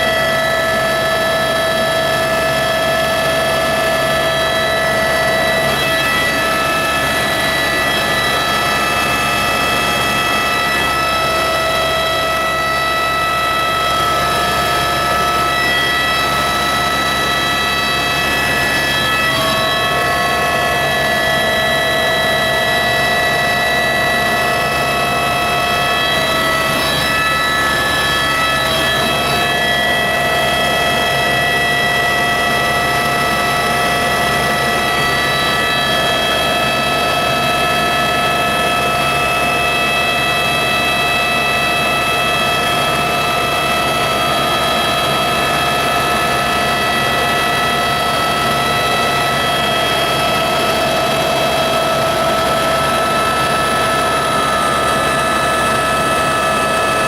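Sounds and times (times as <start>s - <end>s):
helicopter engine and rotor drone: 0.0s - 57.0s
high whining tones: 0.0s - 57.0s.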